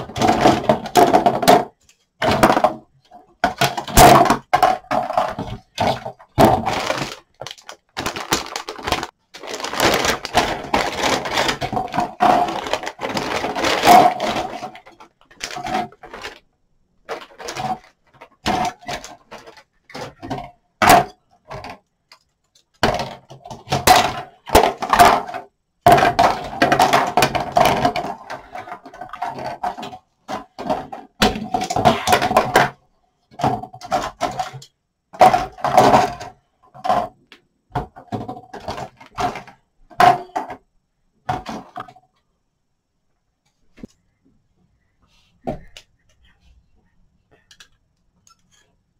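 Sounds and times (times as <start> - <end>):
plastic parts clattering on table: 0.0 - 42.0.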